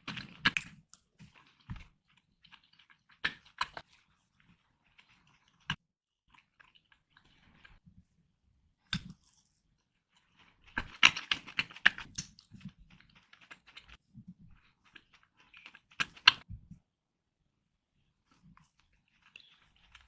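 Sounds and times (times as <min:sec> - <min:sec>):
chewing with crisp clicks: 0:00.0 - 0:07.8, 0:08.8 - 0:16.5, 0:18.3 - 0:20.0.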